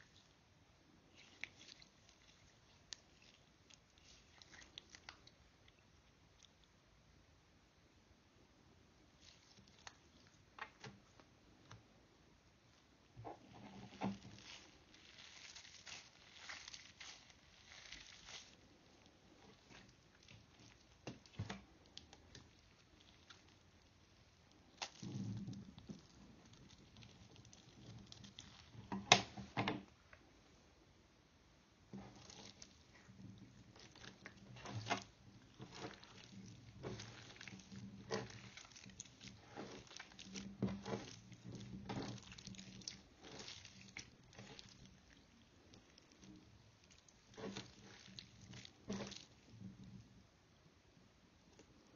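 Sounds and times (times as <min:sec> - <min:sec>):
slime squishing: 0:01.0 - 0:06.8, 0:09.1 - 0:11.3, 0:13.2 - 0:29.6, 0:31.8 - 0:50.1.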